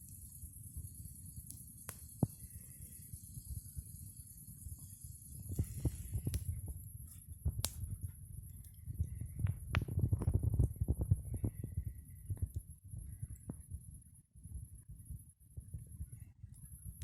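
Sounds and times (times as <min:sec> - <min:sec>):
campfire crackling and popping: 0:00.0 - 0:13.8
low fire rumble: 0:00.0 - 0:17.0.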